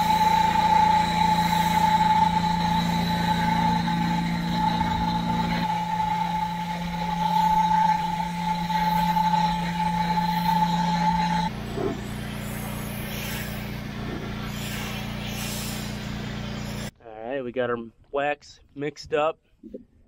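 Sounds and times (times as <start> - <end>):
high steady tone: 0.0 - 16.9
pressure washer engine hum: 0.0 - 16.9.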